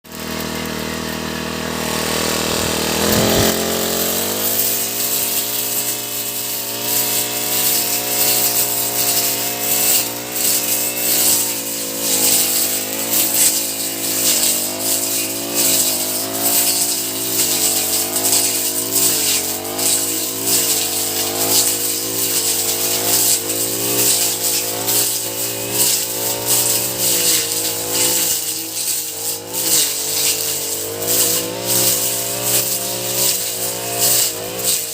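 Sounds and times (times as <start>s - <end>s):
brush cutter engine revving: 0.0s - 34.9s.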